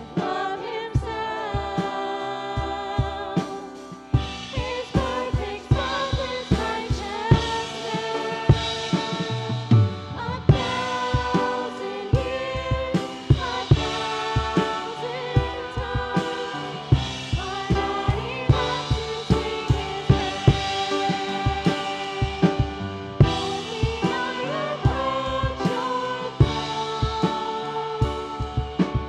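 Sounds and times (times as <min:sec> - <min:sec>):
drum kit steady beat: 0:00.0 - 0:29.0
piano: 0:00.0 - 0:29.0
voices singing together: 0:00.0 - 0:29.0.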